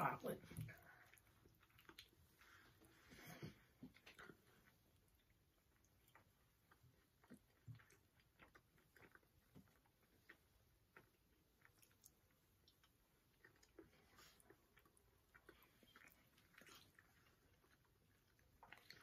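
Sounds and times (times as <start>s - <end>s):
chewing soft cookies: 0.0s - 19.0s.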